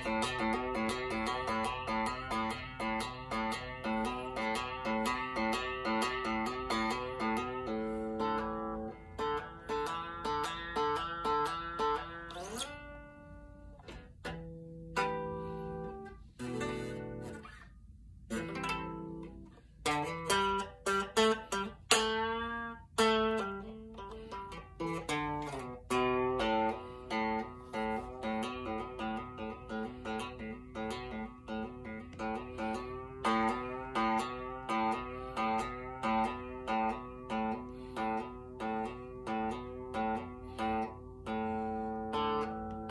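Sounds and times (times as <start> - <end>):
electric guitar playing: 0.0 - 42.9.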